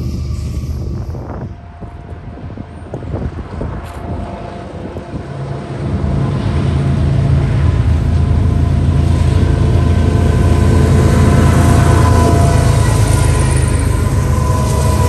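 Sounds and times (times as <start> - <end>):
locomotive engine drone: 0.0 - 15.0.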